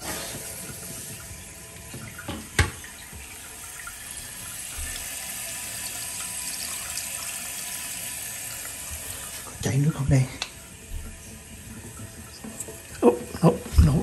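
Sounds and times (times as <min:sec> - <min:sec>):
toilet tank refilling hiss: 0:00.0 - 0:14.0.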